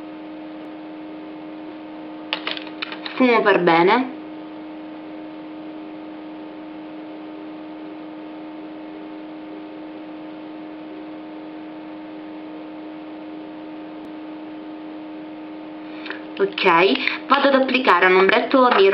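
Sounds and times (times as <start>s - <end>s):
electrical hum with hiss: 0.0s - 18.9s.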